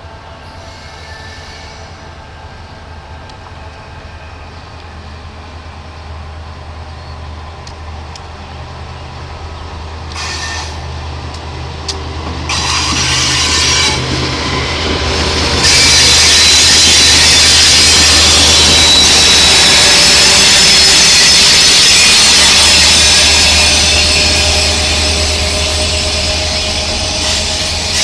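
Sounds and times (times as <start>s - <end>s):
diesel locomotive engines droning: 0.0s - 28.0s
train rushing past: 0.0s - 28.0s.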